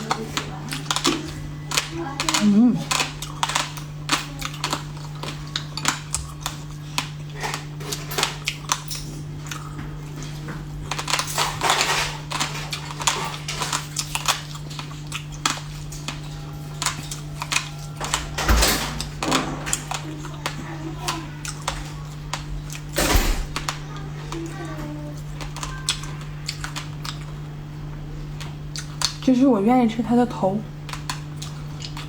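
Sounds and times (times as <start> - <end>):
crunching and smacking of chewing: 0.0 - 18.4, 19.0 - 23.0, 23.6 - 29.3, 30.7 - 32.0
low electrical hum: 0.0 - 32.0.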